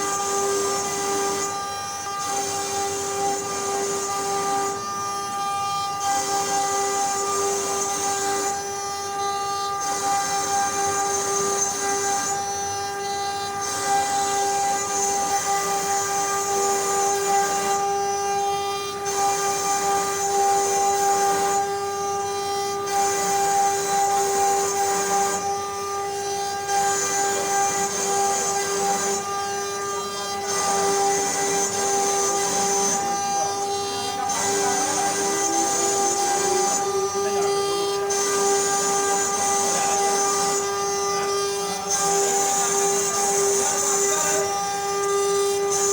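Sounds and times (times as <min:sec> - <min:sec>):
wood router spindle whine: 0:00.0 - 0:45.9.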